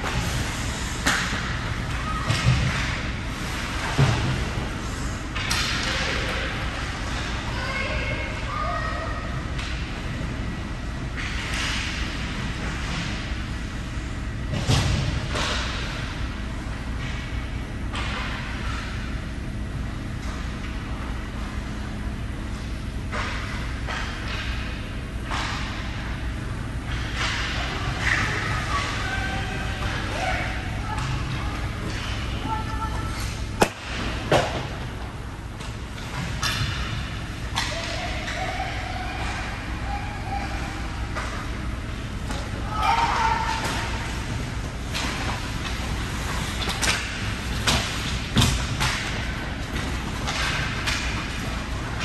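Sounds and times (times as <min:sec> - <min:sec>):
hockey sticks puck and skates: 0:00.0 - 0:13.6, 0:14.5 - 0:19.2, 0:20.2 - 0:21.8, 0:22.5 - 0:26.2, 0:26.8 - 0:52.0
low arena rumble: 0:00.0 - 0:52.0.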